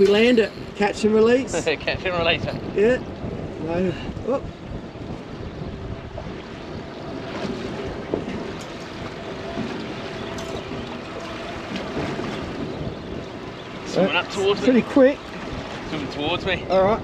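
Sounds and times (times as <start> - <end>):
water washing around boat: 0.0 - 17.0
wind buffeting microphone: 0.0 - 17.0.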